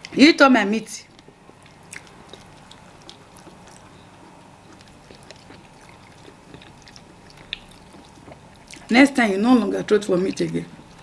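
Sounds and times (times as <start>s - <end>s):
low steady hum: 0.0s - 11.0s
wet chewing clicks: 1.0s - 11.0s.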